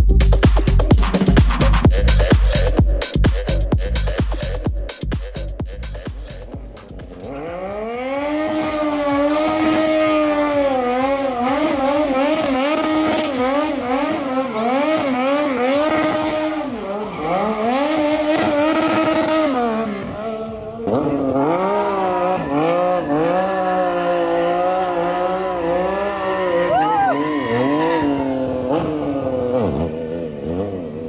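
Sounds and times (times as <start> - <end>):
motorcycle engine revving hard: 5.4 - 31.0.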